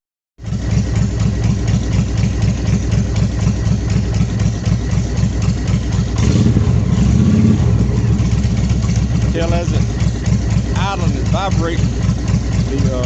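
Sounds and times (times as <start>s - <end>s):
motorcycle engine idling: 0.4s - 13.0s.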